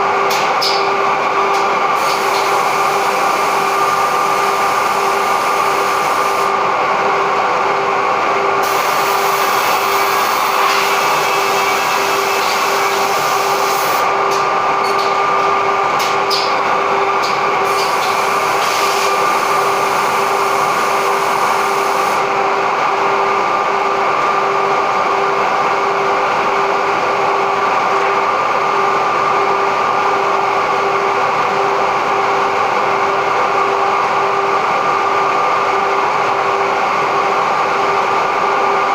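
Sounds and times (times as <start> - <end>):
machine whine: 0.0 - 38.9.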